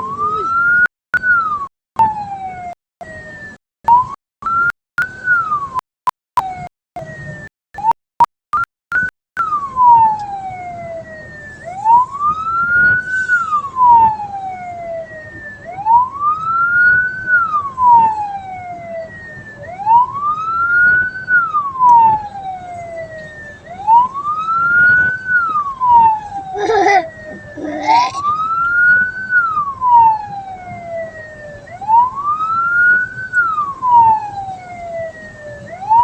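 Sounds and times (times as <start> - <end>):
electronic siren wailing: 0.0 - 5.8, 6.4 - 8.0, 8.9 - 36.0.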